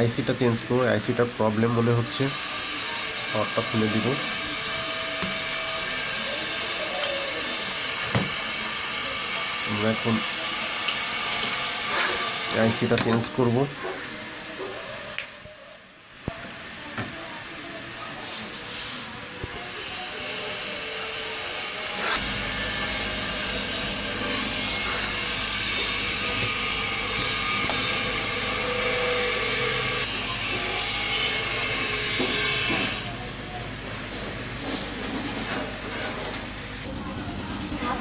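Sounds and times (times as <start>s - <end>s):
hot-air station blowing hiss: 0.0s - 14.5s, 16.6s - 37.8s.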